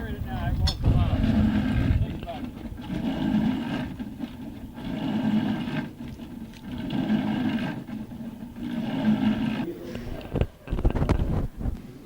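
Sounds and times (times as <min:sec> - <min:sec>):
machine with rhythmic pulse: 0:00.8 - 0:11.2.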